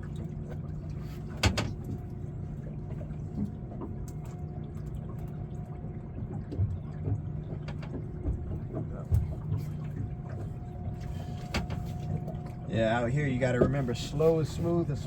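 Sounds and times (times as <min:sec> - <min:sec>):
steady low hum: 0:00.0 - 0:15.0
water noise: 0:00.0 - 0:15.0.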